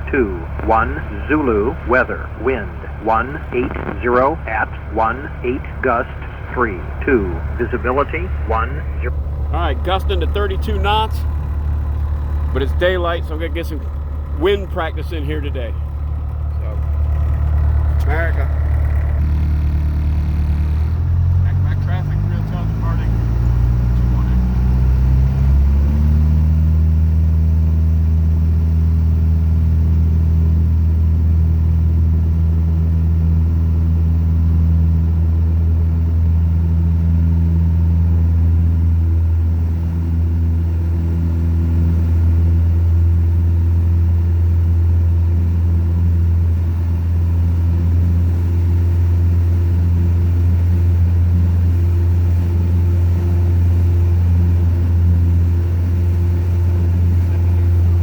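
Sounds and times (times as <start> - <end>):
propeller plane engine: 0.0 - 58.0.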